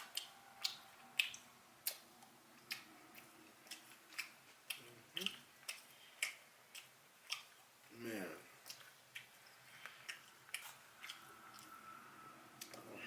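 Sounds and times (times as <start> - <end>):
chewing mouth clicks and smacks: 0.0 - 7.7, 8.6 - 11.8.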